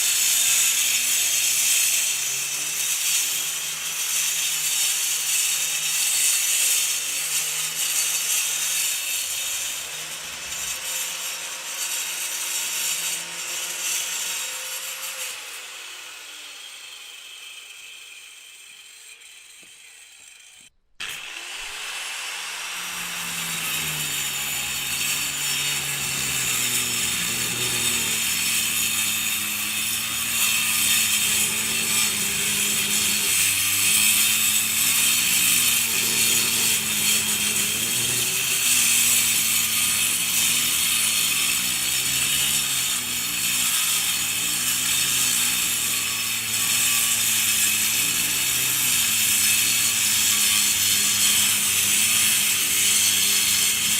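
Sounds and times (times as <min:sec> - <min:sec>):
angle grinder cutting concrete: 0:00.0 - 0:53.9.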